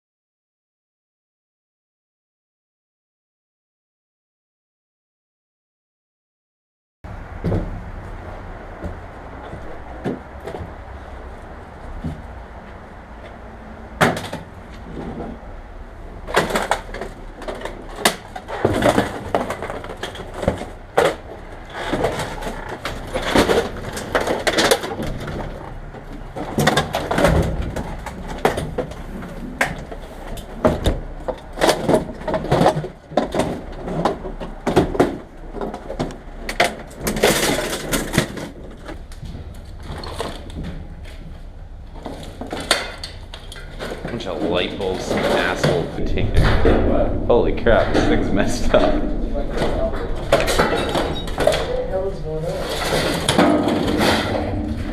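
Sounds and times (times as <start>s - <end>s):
junk knocking and scraping: 7.1s - 54.9s.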